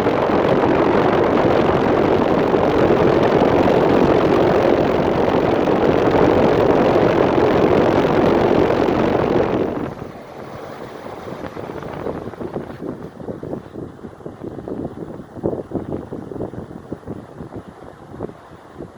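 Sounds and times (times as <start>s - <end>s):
heat pump fan blowing air: 0.0s - 18.9s.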